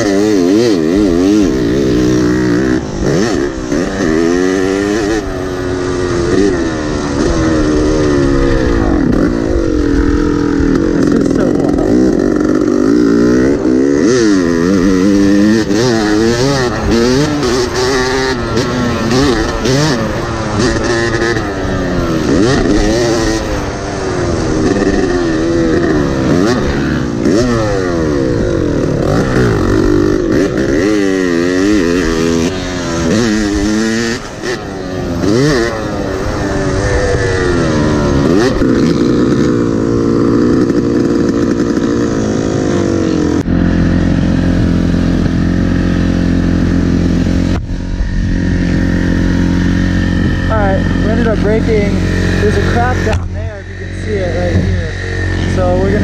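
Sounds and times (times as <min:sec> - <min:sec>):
two-stroke dirt bike engine revving: 0:00.0 - 0:56.0.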